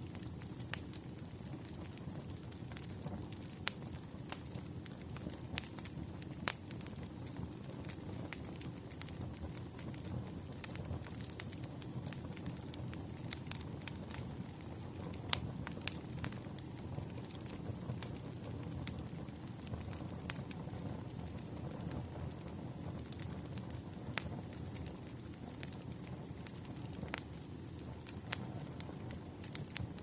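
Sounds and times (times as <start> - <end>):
burning logs crackling and popping: 0.0 - 30.0
rumble of flames: 0.0 - 30.0.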